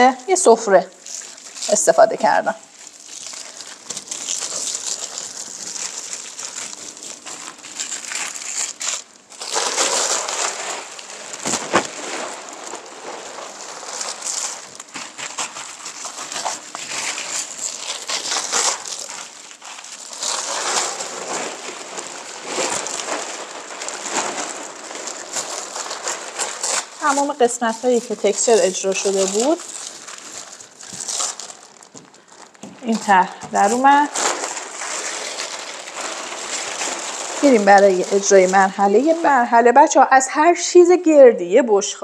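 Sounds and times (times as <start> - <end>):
plastic sheet crinkling: 0.0 - 42.0.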